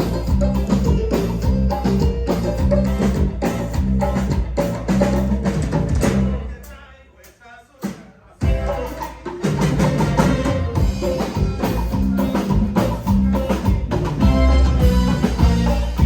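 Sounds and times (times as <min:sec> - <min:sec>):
live cumbia band playing: 0:00.0 - 0:16.0.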